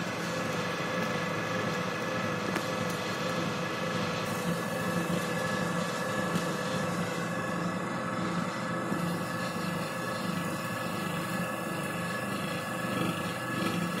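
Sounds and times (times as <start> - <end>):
electric pump motor humming: 0.0 - 14.0.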